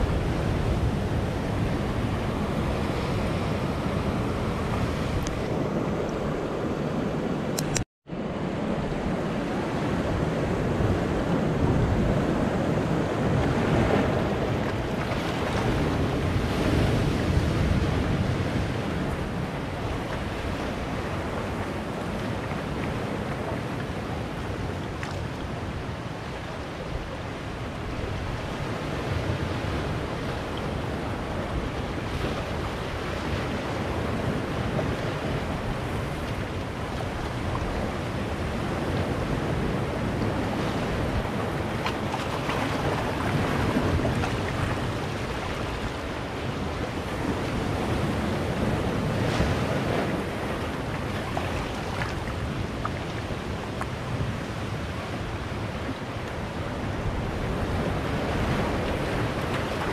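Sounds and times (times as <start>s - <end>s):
surf washing among boulders: 0.0s - 59.9s.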